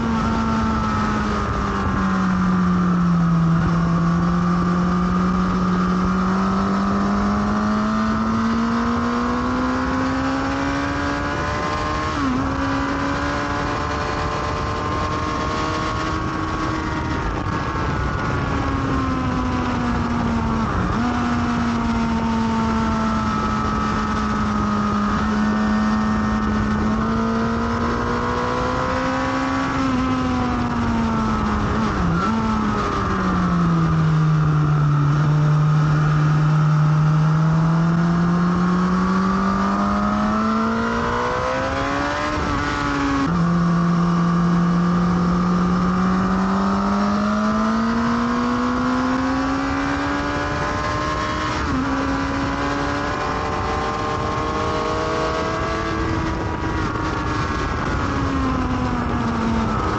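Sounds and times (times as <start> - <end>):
motorcycle engine accelerating: 0.0 - 59.9
wind noise: 0.0 - 59.9.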